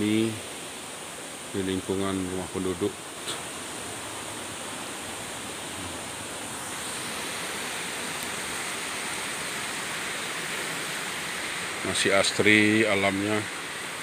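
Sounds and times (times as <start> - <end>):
river flowing: 0.0 - 14.0
waterfall rushing: 0.0 - 14.0.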